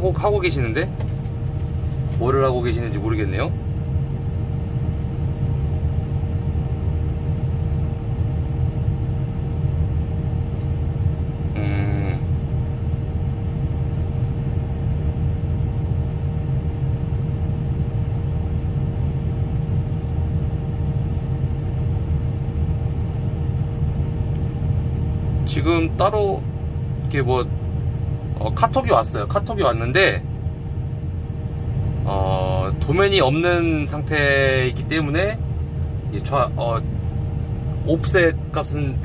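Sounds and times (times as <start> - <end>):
constant whine: 0.0 - 39.0.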